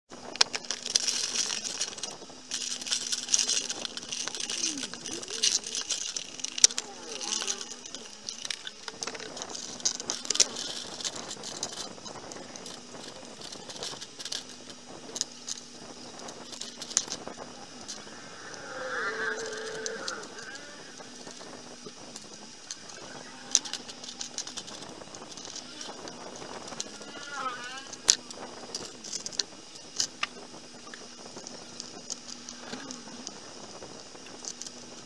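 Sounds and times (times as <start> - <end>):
faint hum and hiss: 0.1 - 35.0
plastic toys clicking and clattering: 0.2 - 35.0.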